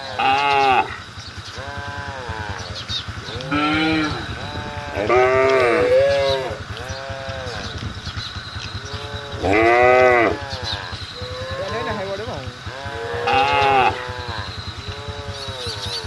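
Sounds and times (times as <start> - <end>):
livestock calling: 0.0 - 16.0
low pulsing hum: 0.0 - 16.0.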